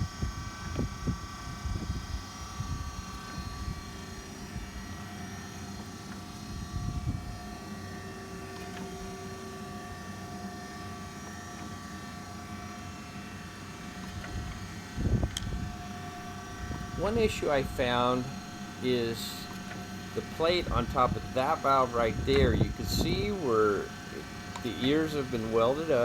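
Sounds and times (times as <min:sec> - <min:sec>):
surface grinder humming and whining: 0:00.0 - 0:26.0.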